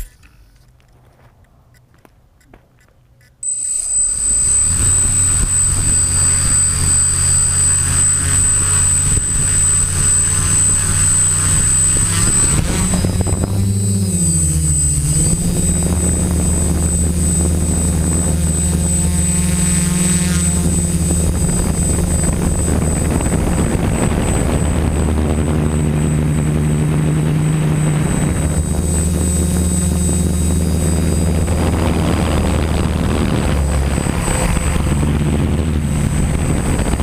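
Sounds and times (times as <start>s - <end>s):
quadcopter motors droning: 3.4s - 37.0s.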